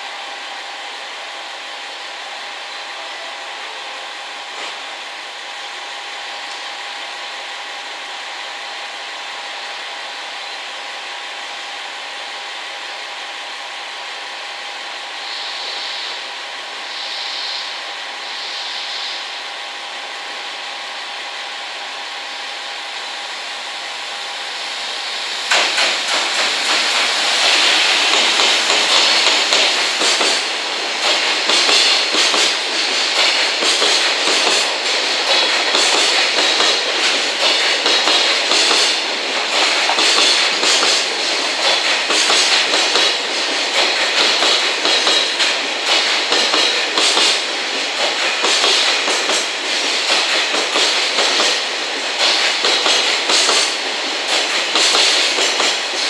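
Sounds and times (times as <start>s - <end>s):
freight train approaching: 0.0s - 56.0s.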